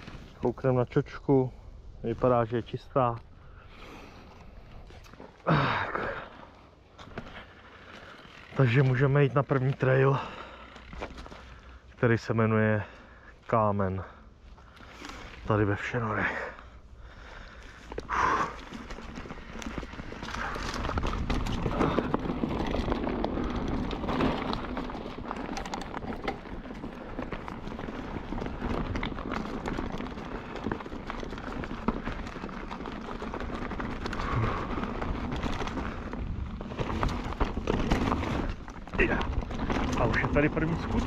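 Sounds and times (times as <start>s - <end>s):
bike tyres crunching through leaves: 0.0s - 0.7s, 2.2s - 41.0s
bike rattling over bumps: 0.0s - 1.4s, 3.4s - 41.0s.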